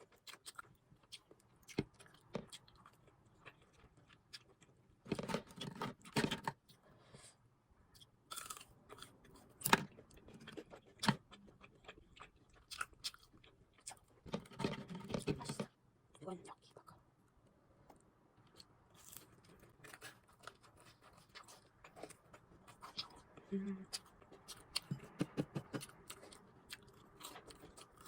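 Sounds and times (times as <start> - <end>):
crunchy food chewing: 0.0 - 6.1, 7.9 - 14.4, 17.9 - 28.0.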